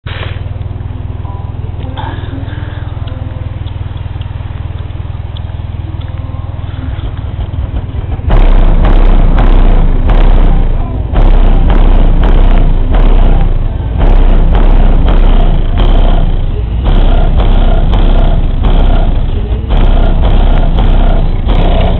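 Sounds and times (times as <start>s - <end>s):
crackling microphone distortion: 0.0s - 21.9s
subwoofer playing deep bass: 0.1s - 21.9s.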